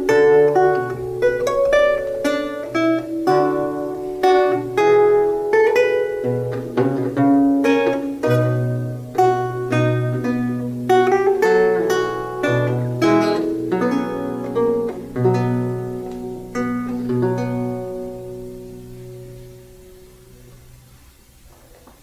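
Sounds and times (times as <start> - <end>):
solo lute playing: 0.0 - 20.9.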